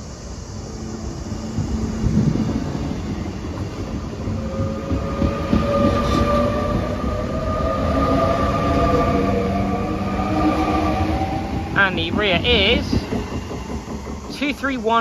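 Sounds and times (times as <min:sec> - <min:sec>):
train wheels rumbling on rails: 0:00.0 - 0:15.0
train motor whine: 0:00.3 - 0:15.0.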